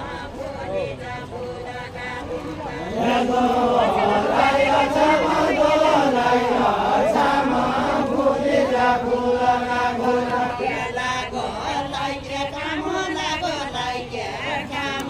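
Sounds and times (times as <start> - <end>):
group singing folk song: 0.0 - 15.0.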